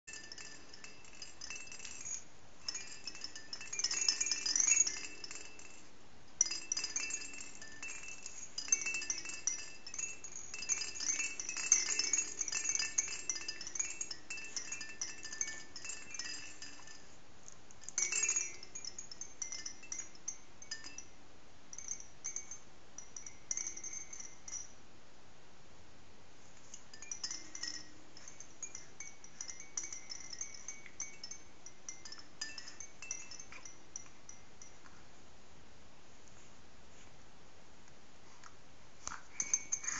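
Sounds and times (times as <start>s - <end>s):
rattle toys jingling and clinking: 0.0s - 17.2s, 17.8s - 21.1s, 21.8s - 24.7s, 26.6s - 34.8s, 39.1s - 39.9s.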